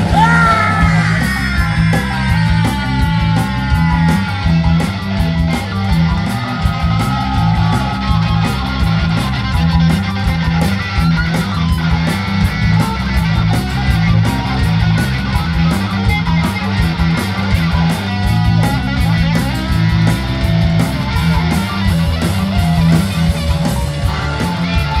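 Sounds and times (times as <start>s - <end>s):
repeating bass line: 0.0s - 25.0s
ska-punk band playing live: 0.0s - 25.0s
steady drum beat: 0.0s - 25.0s.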